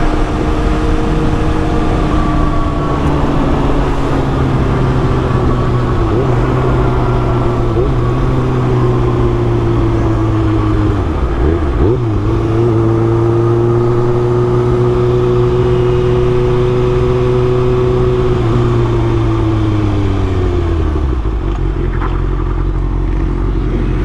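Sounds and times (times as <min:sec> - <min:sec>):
motorcycle engine cruising: 0:00.0 - 0:24.0
riding wind noise: 0:00.0 - 0:24.0.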